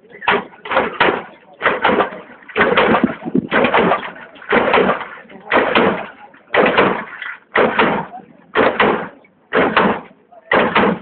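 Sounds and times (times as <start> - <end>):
car suspension bang and rattle: 0.0 - 11.0.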